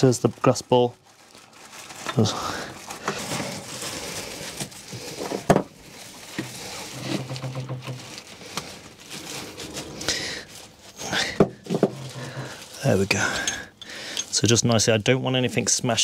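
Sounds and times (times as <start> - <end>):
plastic bag crinkling and rustling: 0.0 - 16.0.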